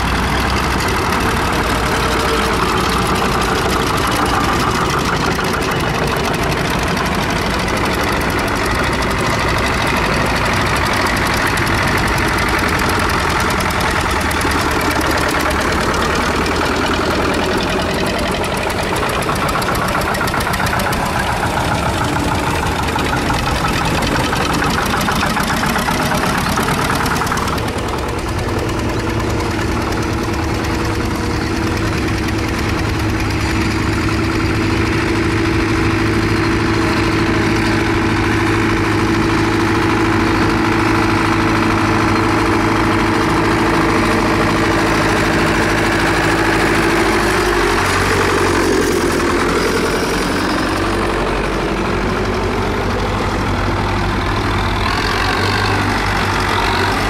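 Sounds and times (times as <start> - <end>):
diesel tractors clattering past: 0.0 - 57.0
tractor idling: 0.0 - 57.0.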